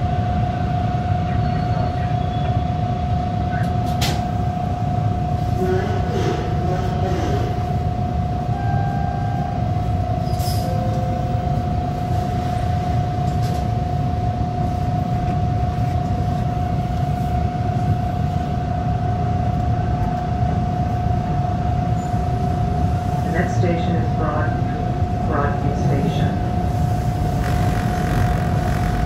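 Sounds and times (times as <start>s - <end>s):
subway train rumbling: 0.0s - 29.0s.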